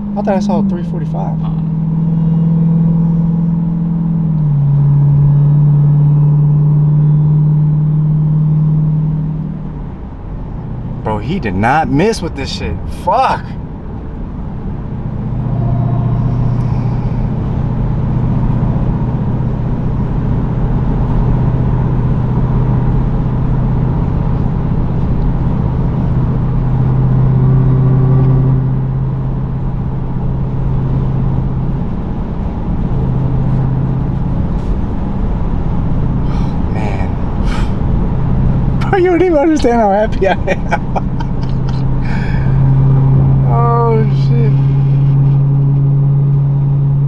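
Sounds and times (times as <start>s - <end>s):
car exhaust drone: 0.0s - 47.0s.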